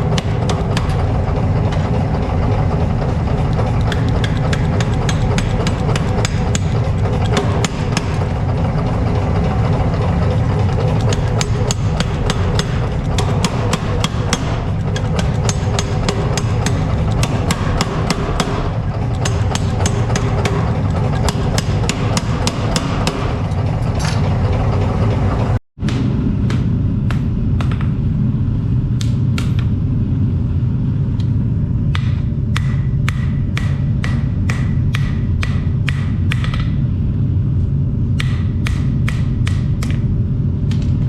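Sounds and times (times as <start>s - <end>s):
low machine drone: 0.0s - 41.0s.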